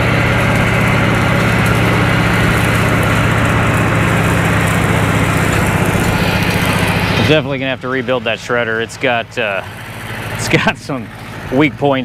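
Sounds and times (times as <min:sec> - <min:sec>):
diesel tractor engine drone: 0:00.0 - 0:12.0
shredder cutting grass: 0:00.0 - 0:12.0.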